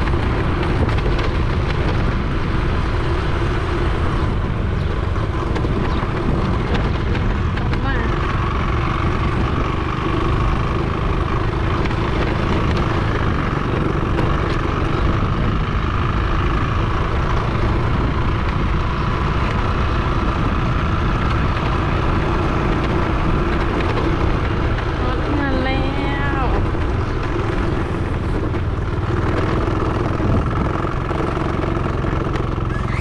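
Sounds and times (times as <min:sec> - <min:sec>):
motorbike engine running: 0:00.0 - 0:33.0
wind noise: 0:00.0 - 0:33.0.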